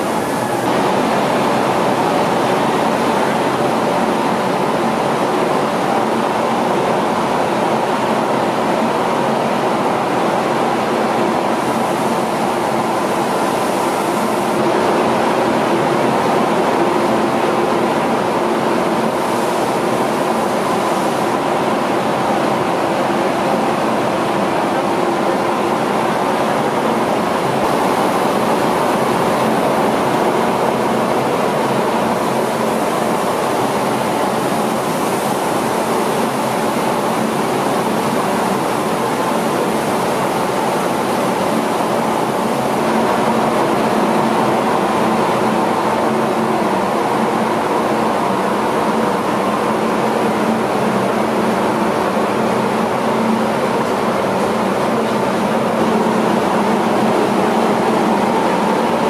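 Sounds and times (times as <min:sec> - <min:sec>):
mill machinery running: 0:00.0 - 0:59.0.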